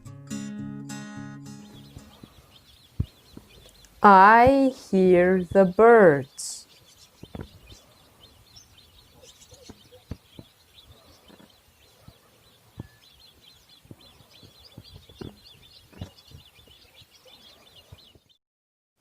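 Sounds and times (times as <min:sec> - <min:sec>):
small birds chirping: 0:00.3 - 0:18.4.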